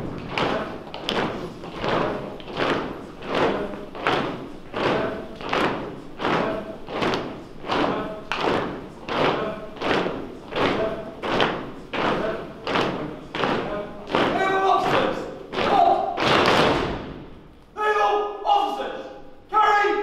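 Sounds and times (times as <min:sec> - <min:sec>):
echoing thuds: 0:00.0 - 0:17.7.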